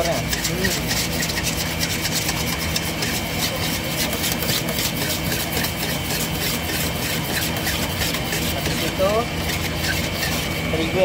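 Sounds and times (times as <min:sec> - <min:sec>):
electric mixer motor hum: 0:00.0 - 0:11.0
whisk scraping metal bowl: 0:00.0 - 0:11.0.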